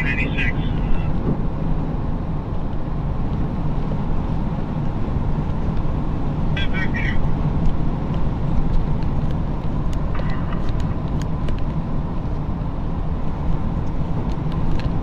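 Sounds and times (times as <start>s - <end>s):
low road rumble in car: 0.0s - 15.0s.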